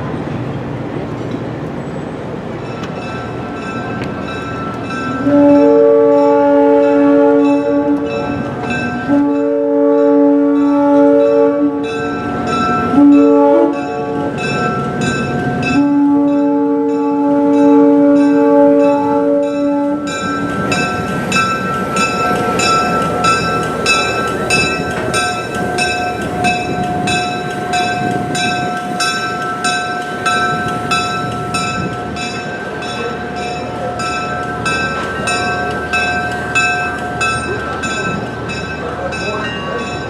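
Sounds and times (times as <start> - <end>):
train rumble and clatter: 0.0 - 40.0.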